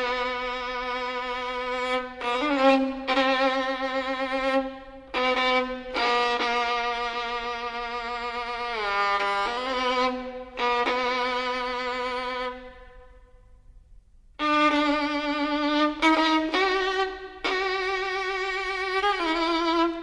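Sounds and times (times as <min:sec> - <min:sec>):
solo violin playing slowly: 0:00.0 - 0:13.2, 0:14.4 - 0:20.0.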